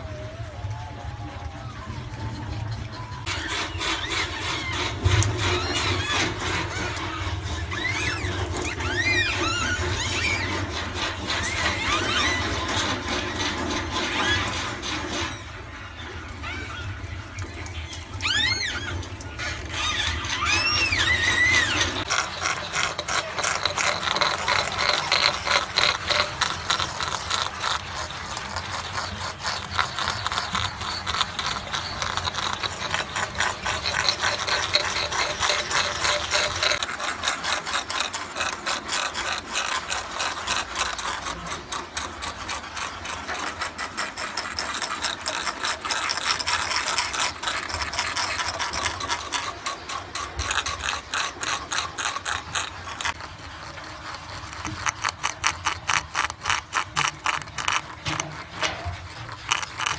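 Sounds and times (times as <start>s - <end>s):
rats gnawing on bamboo: 2.9s - 59.9s.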